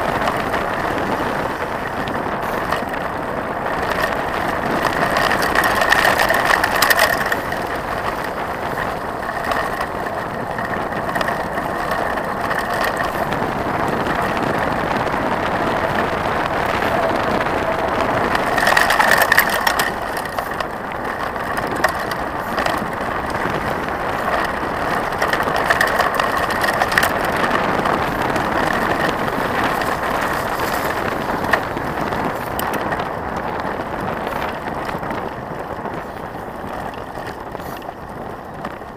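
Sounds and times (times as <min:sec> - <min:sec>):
bike rattling: 0:00.0 - 0:38.9
bike tyres crunching on gravel: 0:00.0 - 0:38.9
clicks and knocks over bumps: 0:00.0 - 0:38.9.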